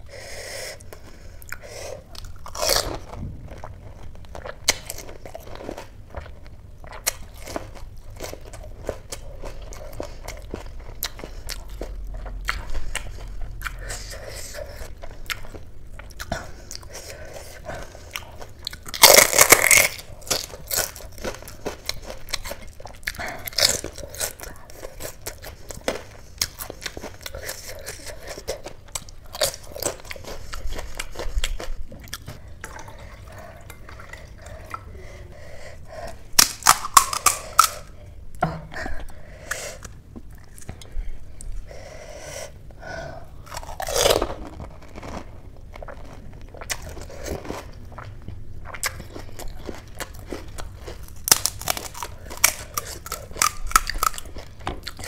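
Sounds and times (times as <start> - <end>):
crunchy food chewing: 0.8 - 34.8, 43.4 - 55.0.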